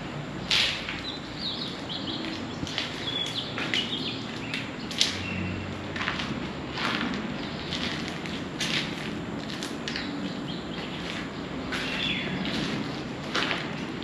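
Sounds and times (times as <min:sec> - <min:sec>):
small birds chirping: 0:00.0 - 0:05.9, 0:07.3 - 0:14.0
footsteps crunching dry leaves: 0:00.6 - 0:14.0.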